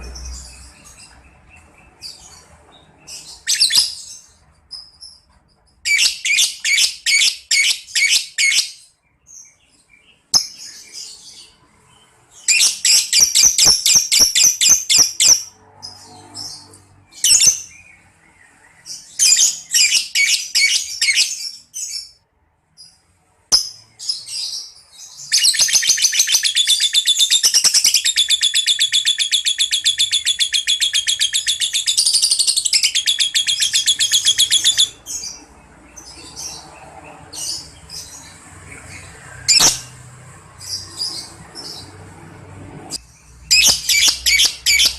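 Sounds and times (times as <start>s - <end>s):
lovebird chirping: 0.0s - 22.2s, 22.8s - 40.0s, 43.0s - 44.9s.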